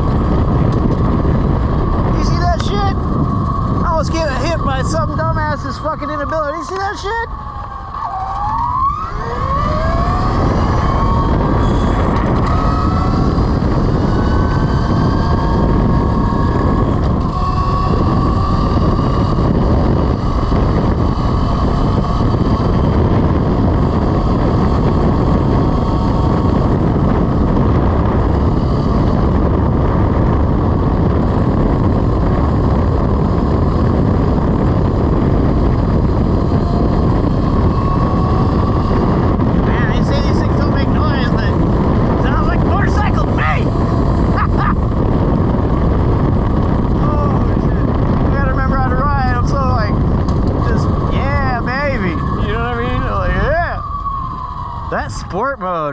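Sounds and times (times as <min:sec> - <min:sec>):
electric motorcycle motor whining: 0:00.0 - 0:55.9
wind rumble on microphone: 0:00.0 - 0:55.9.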